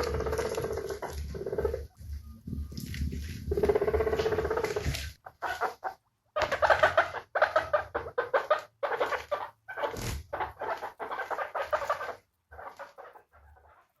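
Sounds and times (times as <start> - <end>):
guinea pigs squeaking: 0.0 - 14.0.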